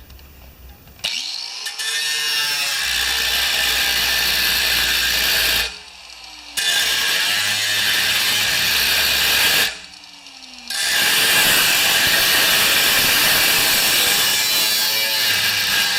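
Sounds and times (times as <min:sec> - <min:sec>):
power tool cutting sheet steel: 0:01.0 - 0:15.9.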